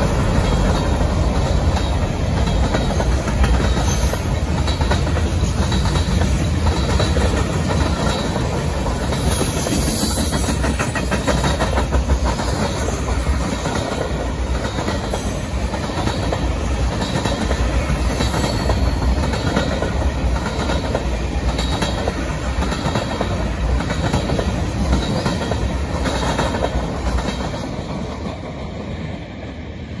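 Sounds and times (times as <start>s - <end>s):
wheels clacking over rail joints: 0.0s - 28.6s
freight train rolling past: 0.0s - 30.0s.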